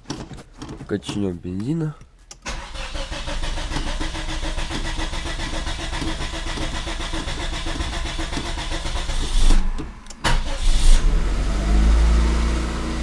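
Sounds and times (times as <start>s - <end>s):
car engine running: 2.4s - 13.0s.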